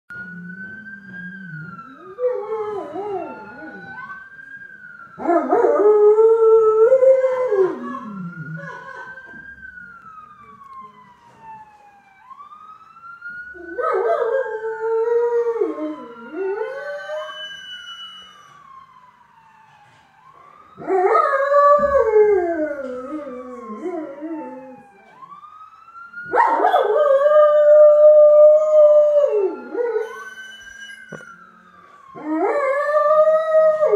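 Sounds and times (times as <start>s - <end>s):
wailing siren: 0.1s - 33.9s.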